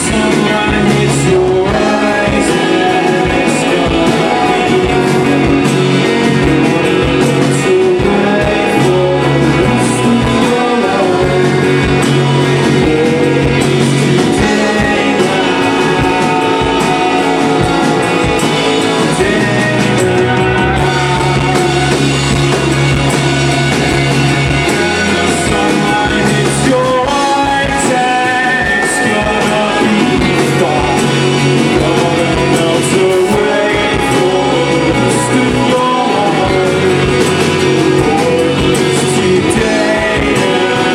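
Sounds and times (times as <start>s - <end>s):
guitar: 0.0s - 40.9s
live rock band: 0.0s - 40.9s
person singing: 0.0s - 40.9s.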